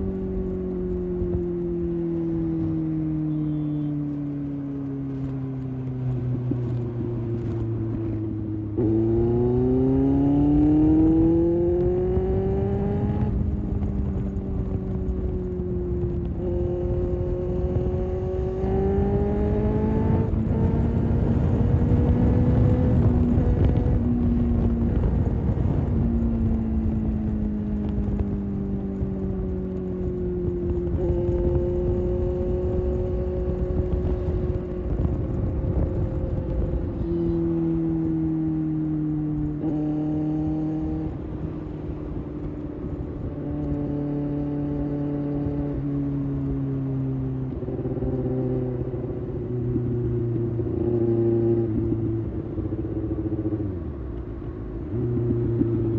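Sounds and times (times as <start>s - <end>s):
motorcycle engine revving: 0.0s - 55.9s
wind on microphone: 4.5s - 55.9s.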